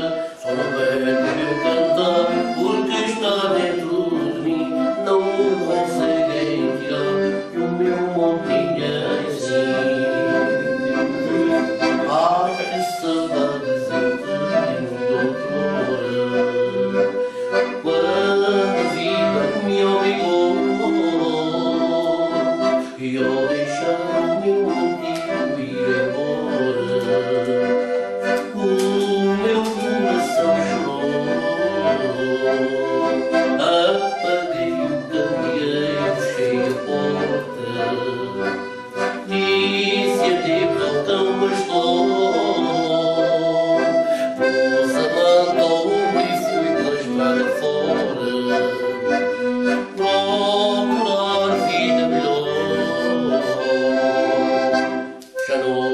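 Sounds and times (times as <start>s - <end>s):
accordion playing: 0.0s - 55.9s.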